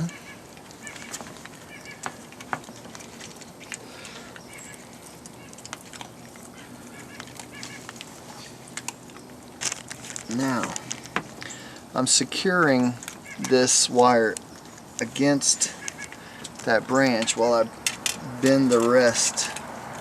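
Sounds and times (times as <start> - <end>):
wire clicking and rustling: 0.0 - 11.9, 12.6 - 20.0.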